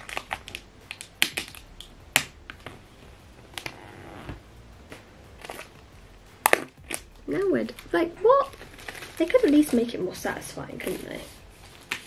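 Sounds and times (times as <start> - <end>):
plastic wrap crackling: 0.0 - 5.8, 6.4 - 12.0.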